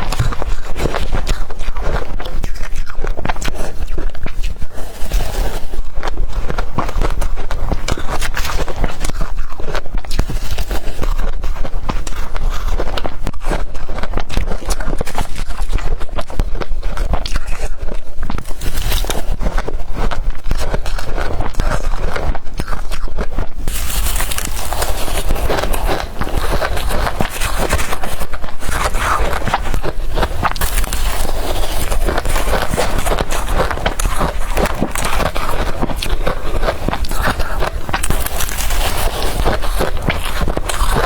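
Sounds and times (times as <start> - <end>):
crunching ice being chewed: 0.0 - 41.0.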